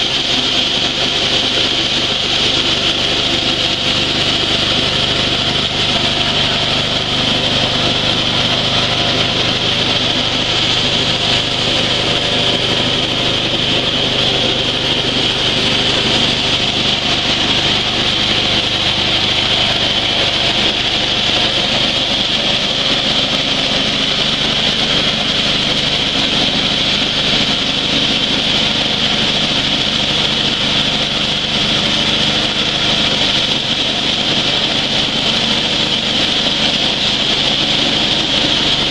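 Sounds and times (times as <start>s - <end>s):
coffee huller engine drone: 0.0s - 38.9s.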